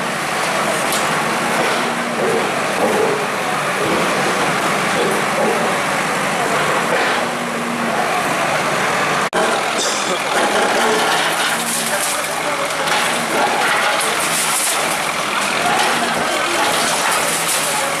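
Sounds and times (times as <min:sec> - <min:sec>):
vehicle engine running: 0:00.0 - 0:18.0
faint voices: 0:02.0 - 0:18.0.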